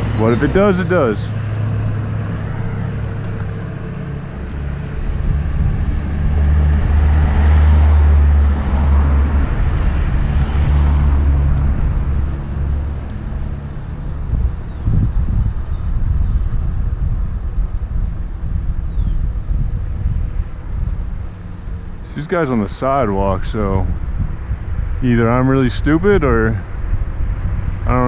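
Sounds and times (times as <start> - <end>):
low wind rumble on microphone: 0.0 - 28.0
motor vehicle passing: 0.0 - 28.0.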